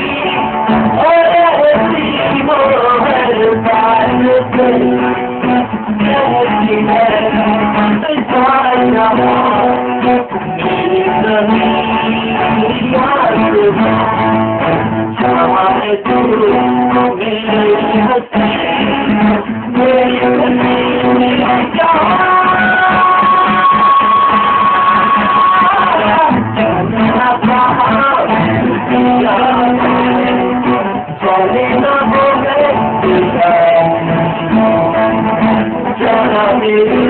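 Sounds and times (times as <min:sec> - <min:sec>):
guitar strumming and picking: 0:00.0 - 0:37.0.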